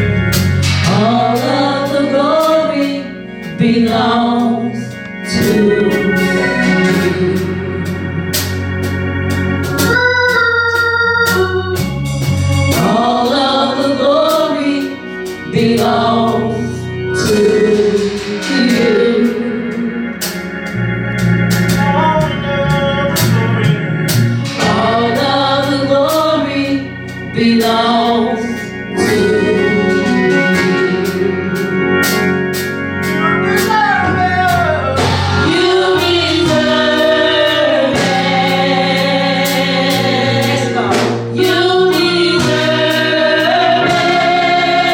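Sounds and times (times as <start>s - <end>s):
gospel singing: 0.0s - 44.9s
organ chords: 0.0s - 44.9s
steady beat: 0.0s - 44.9s.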